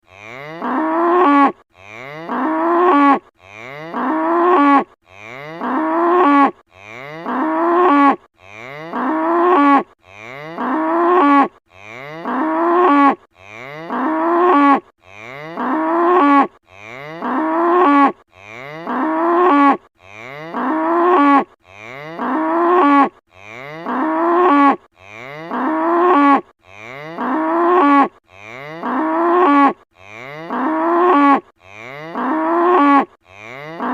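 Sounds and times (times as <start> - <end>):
cow mooing: 0.0 - 33.9.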